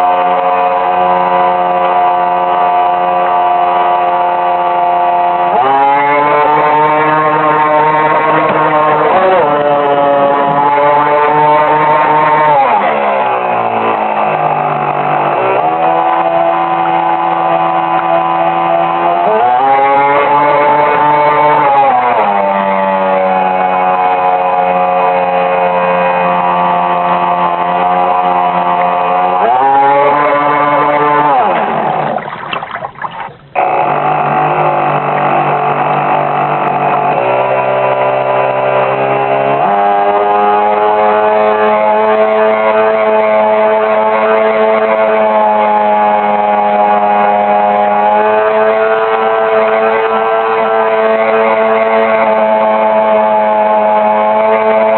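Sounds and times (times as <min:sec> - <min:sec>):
boat motor changing pitch: 0:00.0 - 0:54.9.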